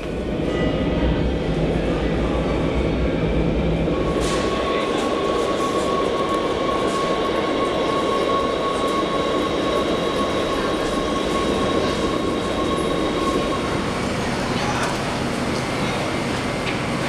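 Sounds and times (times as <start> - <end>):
electric train rumbling: 0.0 - 17.0
thin high train whine: 0.0 - 17.0.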